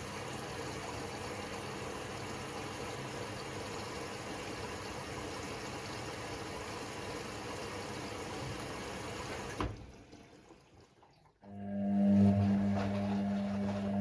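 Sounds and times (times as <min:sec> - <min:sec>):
water rushing into washing machine: 0:00.0 - 0:14.0.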